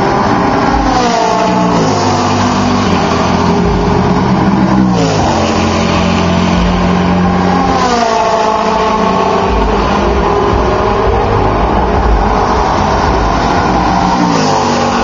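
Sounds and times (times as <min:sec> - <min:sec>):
race car engines: 0:00.0 - 0:15.0
race car passing by: 0:00.0 - 0:15.0.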